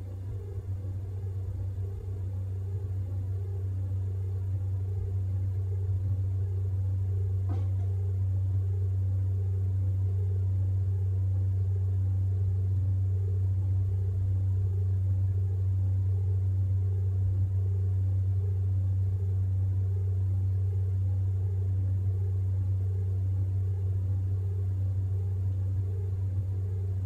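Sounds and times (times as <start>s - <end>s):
faint pulsing tone: 0.0s - 27.0s
steady low hum: 0.0s - 27.0s.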